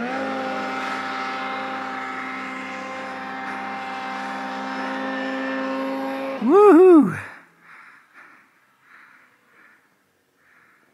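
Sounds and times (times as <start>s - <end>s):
snowmobile engine under load: 0.0s - 10.9s.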